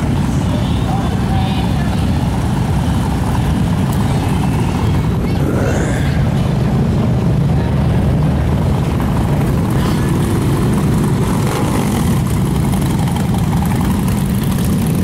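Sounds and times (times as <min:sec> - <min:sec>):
motorcycles rumbling past: 0:00.0 - 0:15.0.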